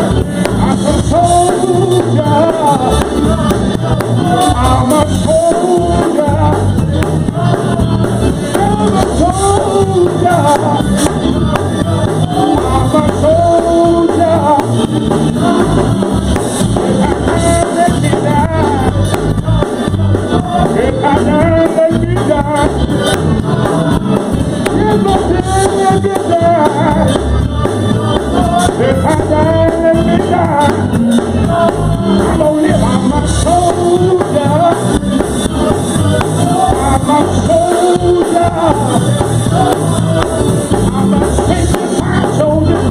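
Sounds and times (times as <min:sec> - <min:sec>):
band playing steady beat: 0:00.0 - 0:42.9
voices singing gospel: 0:00.0 - 0:42.9.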